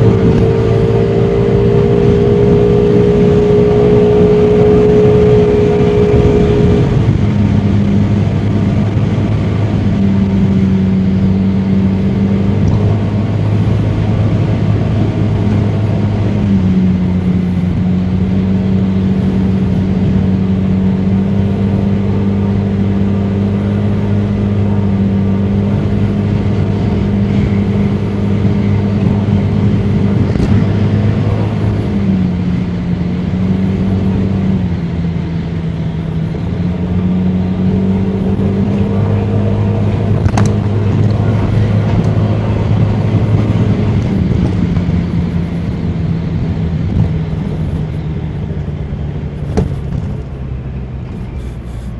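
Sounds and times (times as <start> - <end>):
road and wind noise: 0.0 - 51.9.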